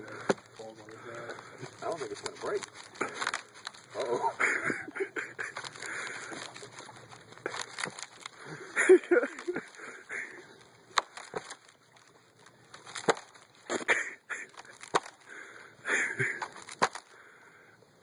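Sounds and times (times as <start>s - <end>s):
thin ice cracking: 0.0s - 17.2s.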